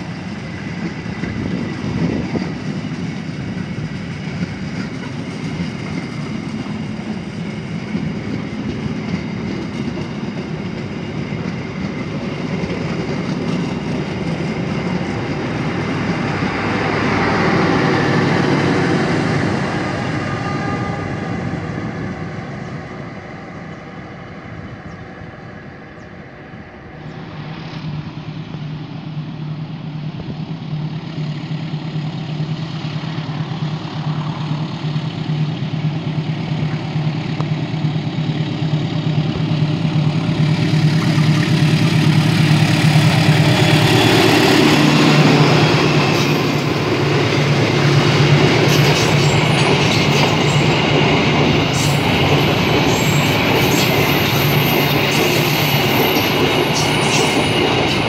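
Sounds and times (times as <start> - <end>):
train carriages rolling on rails: 0.0 - 24.0, 26.4 - 58.0
locomotive engine drone: 0.0 - 58.0.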